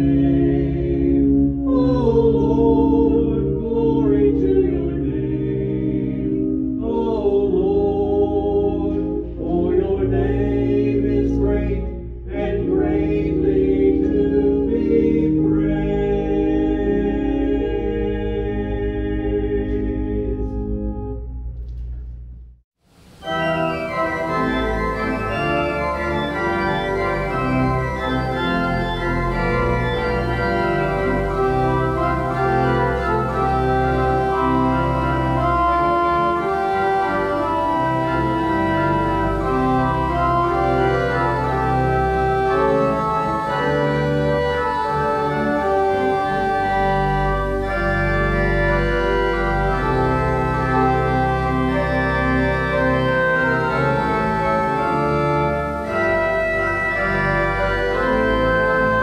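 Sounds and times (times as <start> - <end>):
organ playing sustained chords: 0.0 - 22.2, 22.9 - 59.0.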